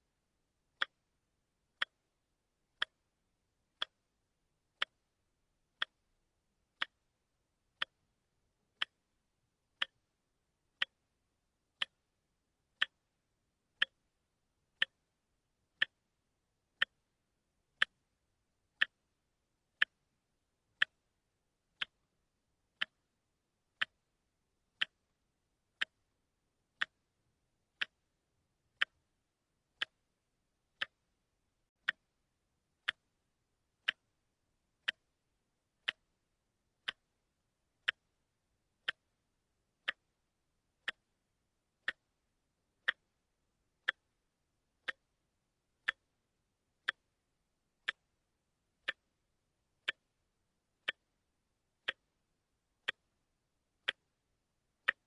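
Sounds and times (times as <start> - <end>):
wristwatch ticking: 0.6 - 55.0.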